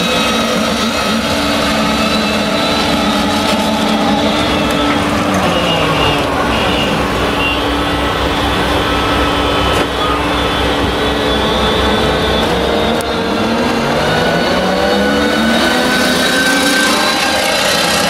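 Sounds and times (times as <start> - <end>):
diesel engine passing close: 0.0 - 18.0
high mechanical whine: 0.0 - 18.0.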